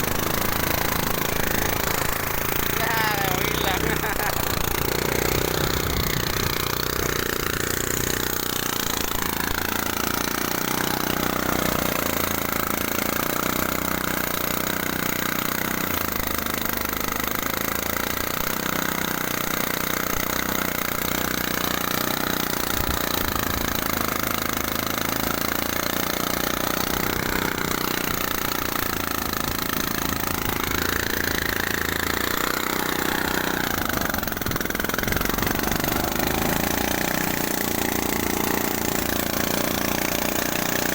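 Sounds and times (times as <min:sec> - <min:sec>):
threshing machine engine running: 0:00.0 - 0:40.9.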